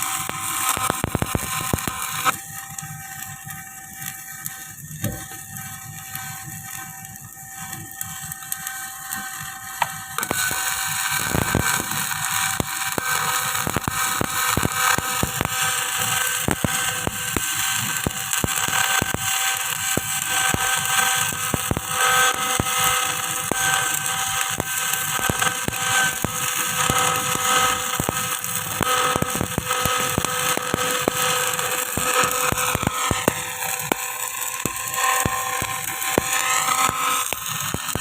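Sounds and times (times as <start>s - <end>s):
crackling welding arc: 0.0s - 38.0s.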